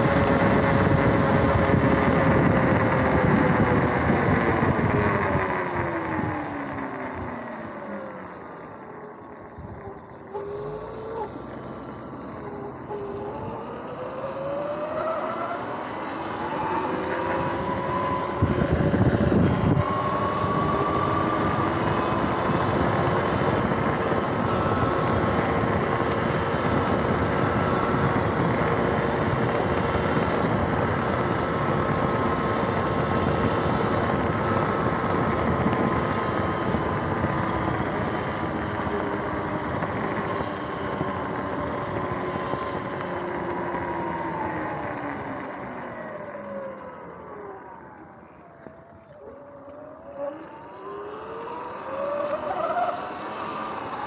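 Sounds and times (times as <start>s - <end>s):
electric motor whine: 0.0s - 54.0s.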